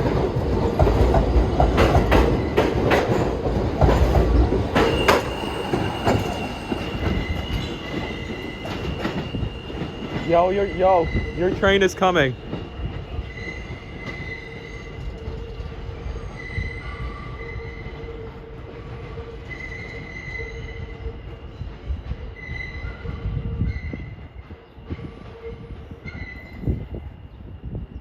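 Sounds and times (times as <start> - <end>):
subway train rumbling: 0.0 - 28.0
wheels squealing against rails: 1.7 - 28.0.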